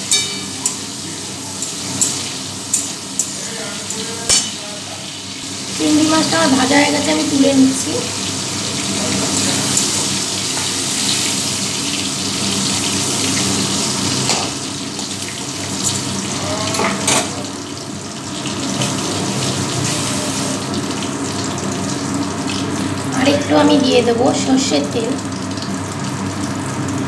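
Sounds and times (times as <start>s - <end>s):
oil sizzling in a metal pan: 0.0s - 27.0s.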